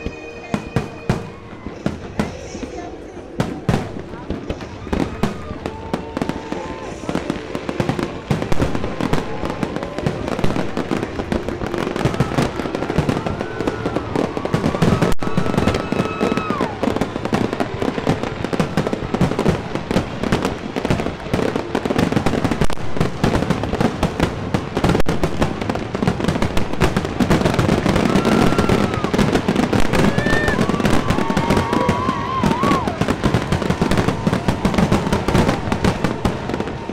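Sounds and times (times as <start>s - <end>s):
fireworks bangs and crackling: 0.0s - 36.9s.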